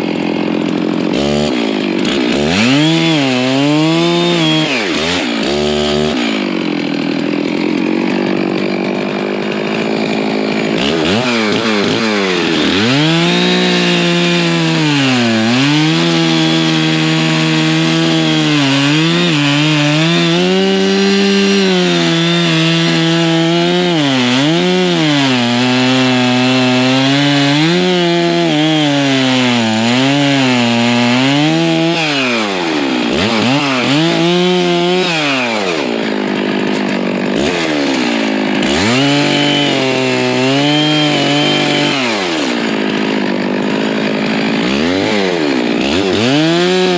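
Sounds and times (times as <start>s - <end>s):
chainsaw cutting into tree: 0.0s - 46.9s.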